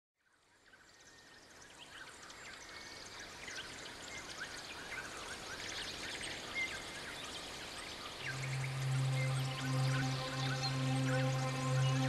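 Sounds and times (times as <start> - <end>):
songbirds chirping: 0.3 - 12.0.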